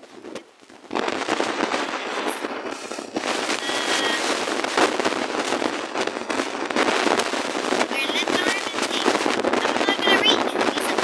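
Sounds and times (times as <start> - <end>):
crackling and rustling noise: 0.0 - 11.0.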